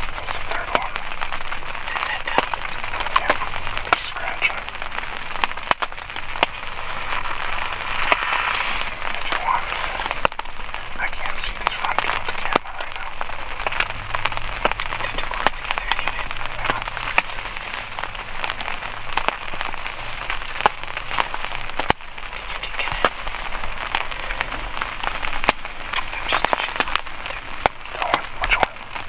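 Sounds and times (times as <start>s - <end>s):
rain pattering: 0.0s - 29.0s.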